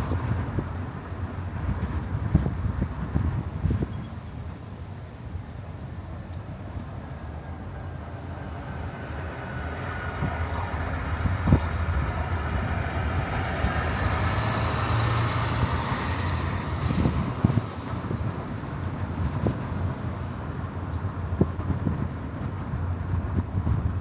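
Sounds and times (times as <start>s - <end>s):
tyre noise on road: 0.0s - 24.0s.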